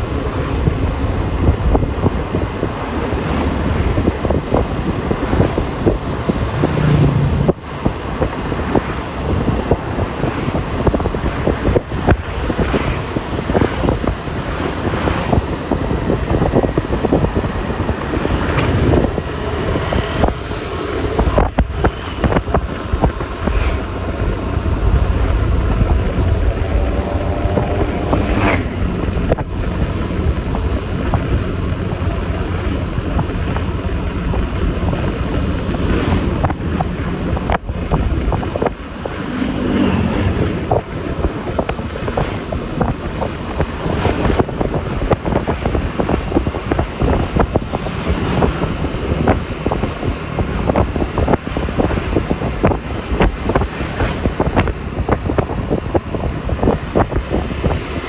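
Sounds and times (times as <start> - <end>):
scooter engine and tyre noise: 0.0 - 58.0
wind buffeting microphone: 0.0 - 58.0.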